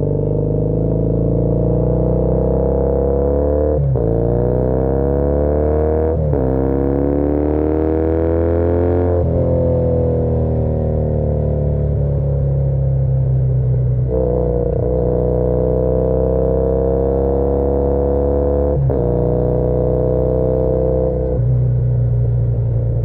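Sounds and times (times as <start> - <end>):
motorcycle engine revving: 0.0 - 12.1, 14.0 - 21.7.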